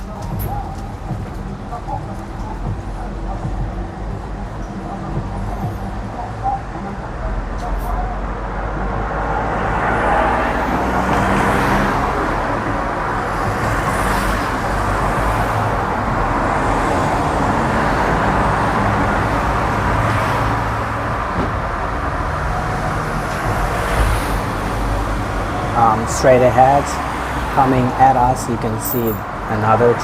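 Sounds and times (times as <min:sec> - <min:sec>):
tram rumbling: 0:00.0 - 0:30.0.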